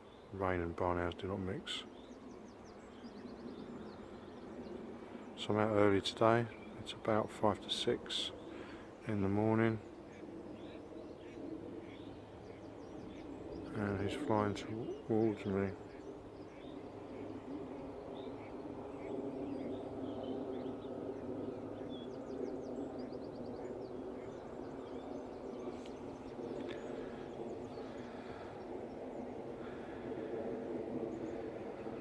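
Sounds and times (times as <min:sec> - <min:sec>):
small birds chirping: 0:00.0 - 0:32.0
steady low hum: 0:00.0 - 0:32.0.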